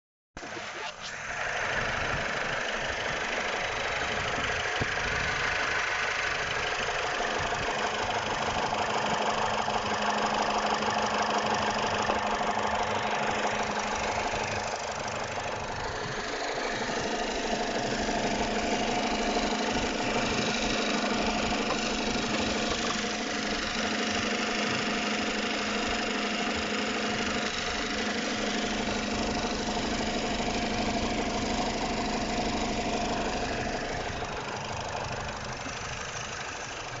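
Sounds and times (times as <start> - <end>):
car engine running: 0.4 - 37.0
engine knocking hum: 0.4 - 37.0.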